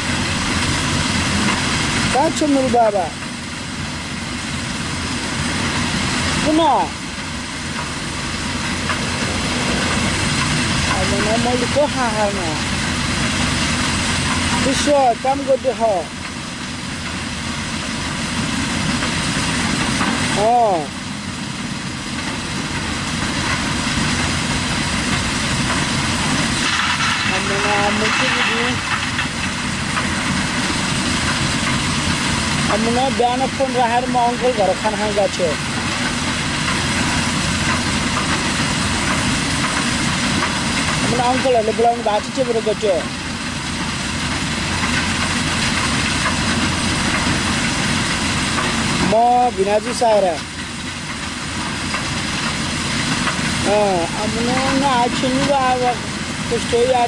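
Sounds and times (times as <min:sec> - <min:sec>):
excavator diesel engine under load: 0:00.0 - 0:57.0
mobile crusher running: 0:00.0 - 0:57.0
rushing mechanical noise: 0:00.0 - 0:57.0.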